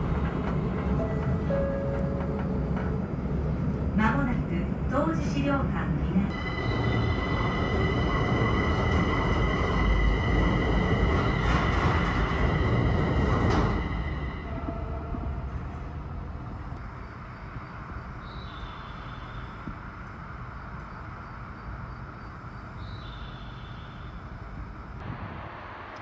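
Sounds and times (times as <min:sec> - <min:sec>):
maglev train whining past: 0:00.0 - 0:26.0.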